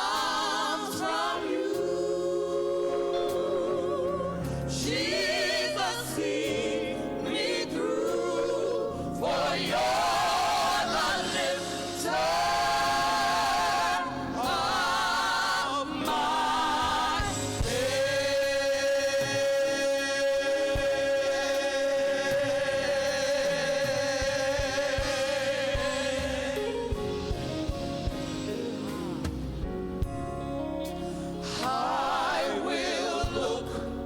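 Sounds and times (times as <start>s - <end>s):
gospel choir singing: 0.0s - 34.0s.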